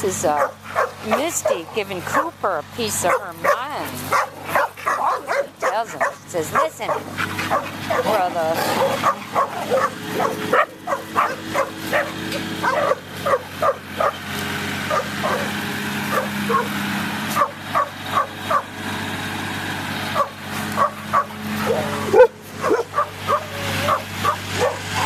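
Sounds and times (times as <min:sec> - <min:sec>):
engine droning: 0:00.0 - 0:25.0
dogs barking: 0:00.2 - 0:18.8, 0:20.1 - 0:25.0.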